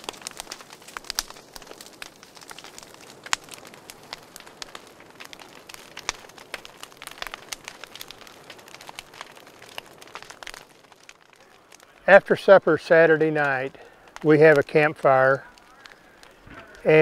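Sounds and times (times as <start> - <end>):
burning logs popping: 0.0 - 17.0
campfire crackling: 0.0 - 17.0.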